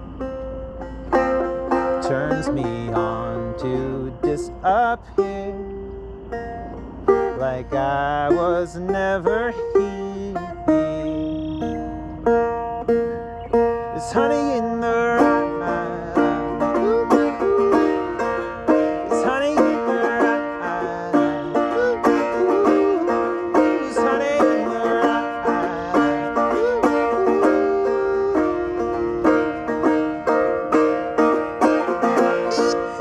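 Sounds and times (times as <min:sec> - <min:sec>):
banjo picking quick notes: 0:00.0 - 0:33.0.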